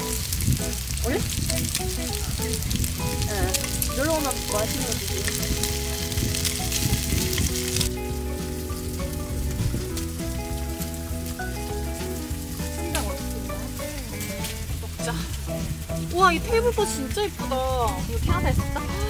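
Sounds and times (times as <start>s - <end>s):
meat sizzling on grill pan: 0.0s - 19.0s
soft background music: 0.0s - 19.0s.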